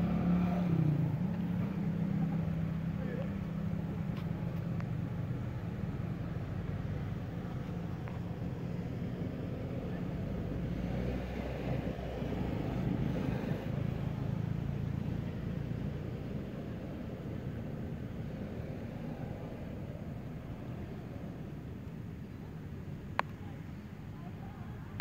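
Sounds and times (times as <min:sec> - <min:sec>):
low rumble of vehicle engines: 0:00.0 - 0:25.0.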